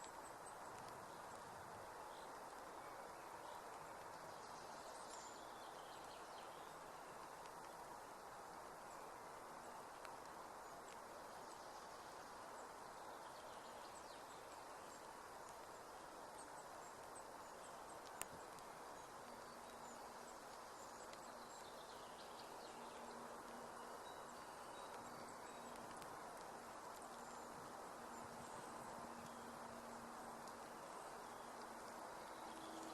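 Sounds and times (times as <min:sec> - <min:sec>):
light rain falling: 0:00.0 - 0:32.9.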